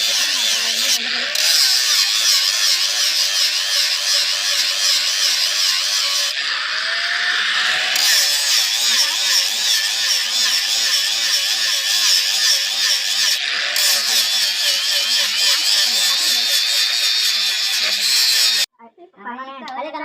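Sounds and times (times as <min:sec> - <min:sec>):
electric grinder on steel blade: 0:00.0 - 0:18.7.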